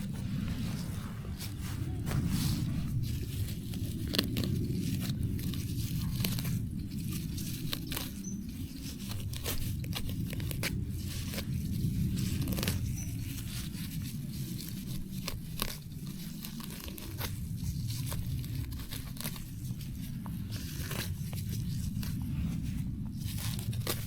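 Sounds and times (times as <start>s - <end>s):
plants snapping and tearing: 0.0s - 24.0s
steady low rumble: 0.0s - 24.0s.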